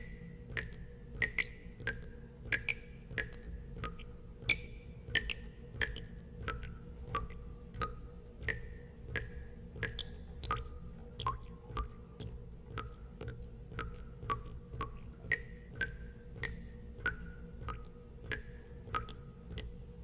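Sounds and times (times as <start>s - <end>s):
low steady hum: 0.0s - 20.0s
water drops plinking into water: 0.0s - 20.0s.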